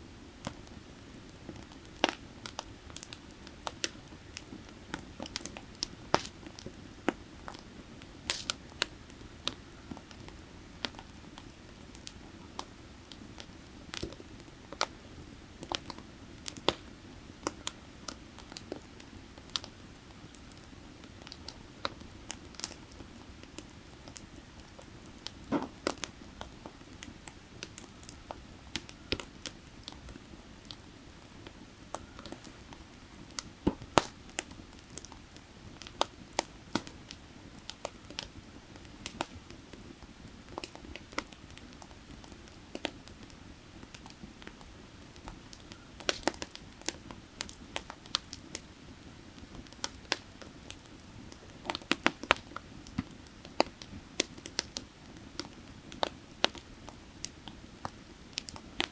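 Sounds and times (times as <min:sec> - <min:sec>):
firewood crackling and popping: 0:00.2 - 0:58.9.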